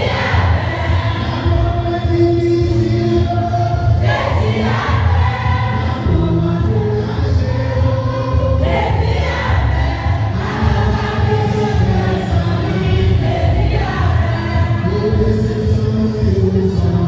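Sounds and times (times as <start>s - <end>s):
choir singing a hymn: 0.0s - 2.0s, 2.7s - 16.1s
low bass accompaniment: 0.0s - 17.0s.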